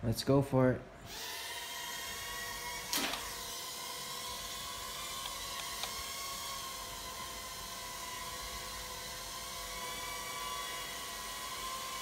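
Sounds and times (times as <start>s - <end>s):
small drone propellers whining: 1.0s - 12.0s.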